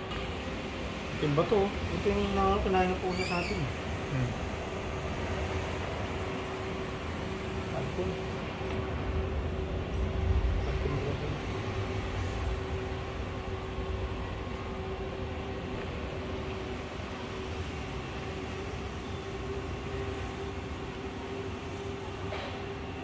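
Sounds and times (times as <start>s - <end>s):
mechanical room hum: 0.0s - 23.0s.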